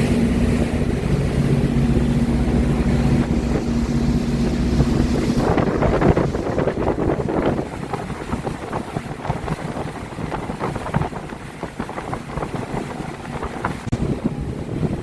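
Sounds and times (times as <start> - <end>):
motorboat engine rumble: 0.0 - 15.0
water splashing against hull: 0.0 - 15.0
wind buffeting microphone: 0.0 - 15.0.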